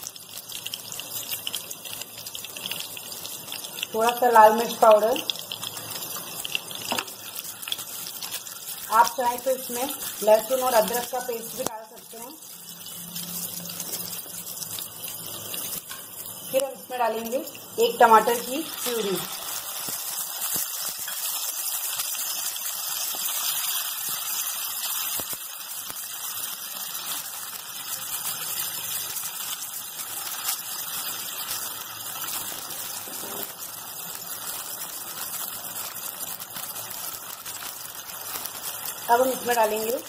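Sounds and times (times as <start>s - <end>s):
sizzling in a frying pan: 0.0s - 40.0s.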